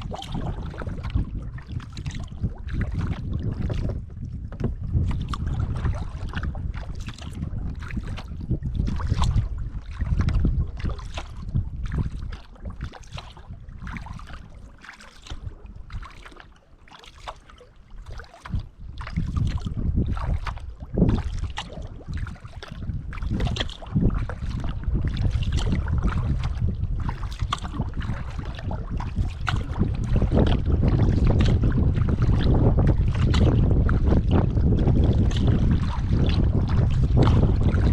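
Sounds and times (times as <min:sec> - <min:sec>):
wind rumbling on microphone: 0:00.0 - 0:16.5, 0:17.8 - 0:37.9
kayak paddle splashing water: 0:00.0 - 0:37.9.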